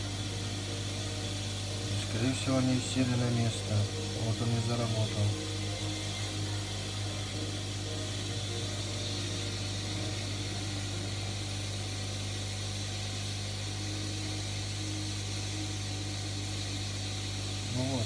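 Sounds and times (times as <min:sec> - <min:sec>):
constant hiss: 0:00.0 - 0:18.0
low electrical hum: 0:00.0 - 0:18.0.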